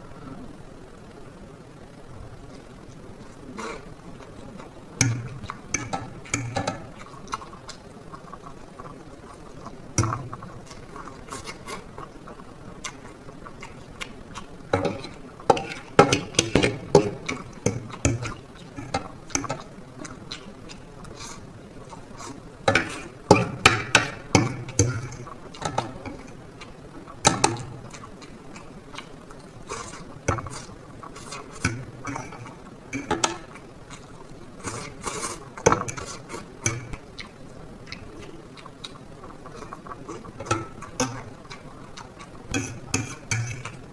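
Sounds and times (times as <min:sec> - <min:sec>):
wet chewing and slurping: 0:02.4 - 0:43.9.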